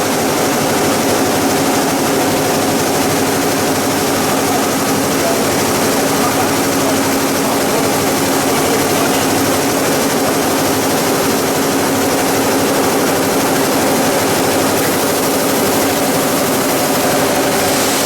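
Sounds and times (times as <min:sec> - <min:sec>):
factory machinery running: 0:00.0 - 0:18.0.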